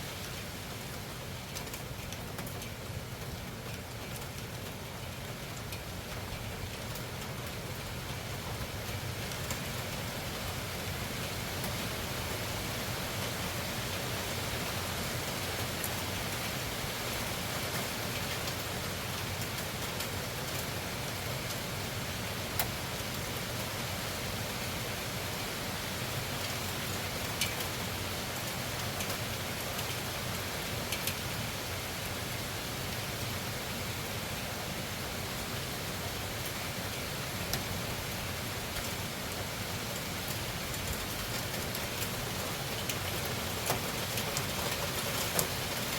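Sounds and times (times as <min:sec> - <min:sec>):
heavy rain hissing: 0:07.7 - 0:45.9.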